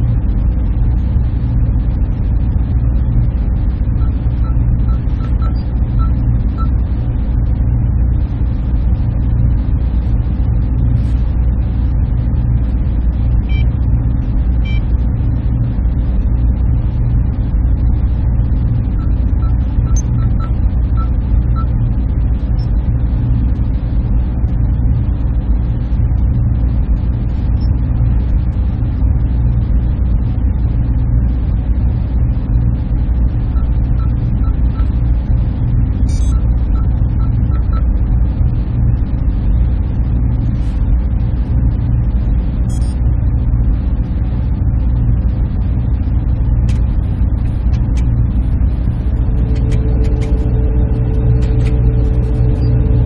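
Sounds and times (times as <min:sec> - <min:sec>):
cooling fans droning: 0:00.0 - 0:53.0.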